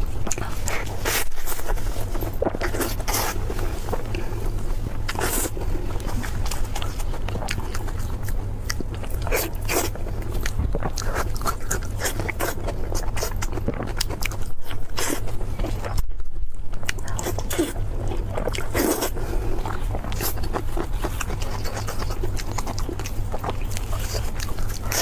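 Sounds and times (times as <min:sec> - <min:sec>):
chewing with sharp crackles: 0:00.0 - 0:25.0
steady low hum: 0:00.0 - 0:25.0.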